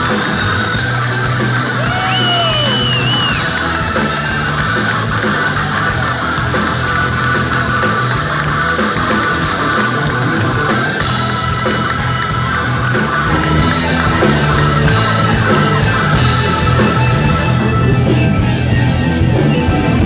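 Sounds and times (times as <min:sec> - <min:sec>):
blues-rock band playing live: 0:00.0 - 0:20.0
electric guitar: 0:00.0 - 0:20.0.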